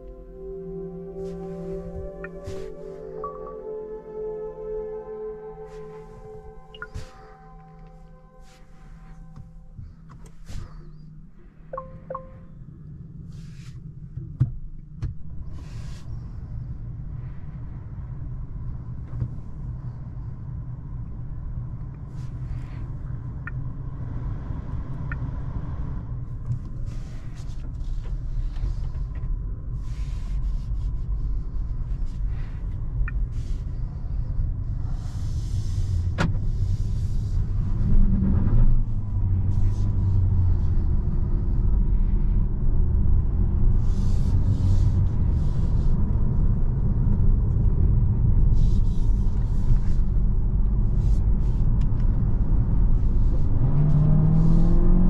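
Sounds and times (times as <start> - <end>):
road and tyre rumble in car: 0.0 - 55.0.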